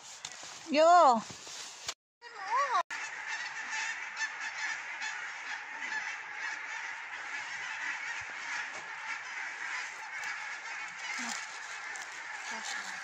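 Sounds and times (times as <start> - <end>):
flock of geese honking: 2.4 - 13.0.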